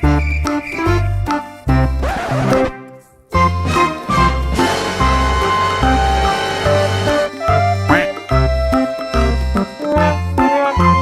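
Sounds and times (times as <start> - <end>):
background music with bass notes: 0.0 - 11.0.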